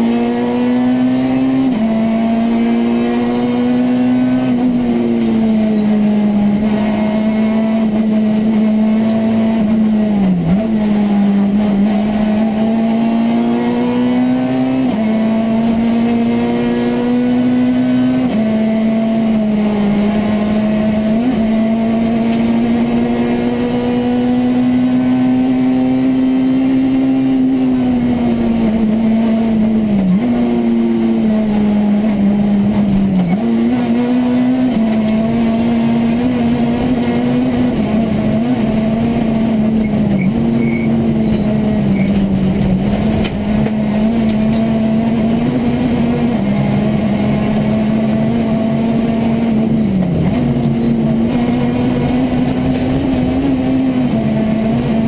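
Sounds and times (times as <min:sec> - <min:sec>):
rally car engine at high revs: 0:00.0 - 0:55.0
road and tyre noise: 0:00.0 - 0:55.0.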